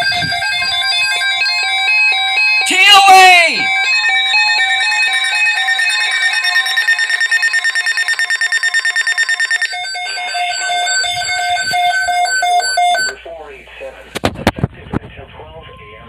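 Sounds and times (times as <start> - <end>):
electronic alarm pulsing: 0.0 - 13.2
repeated beeping tone: 0.0 - 13.2.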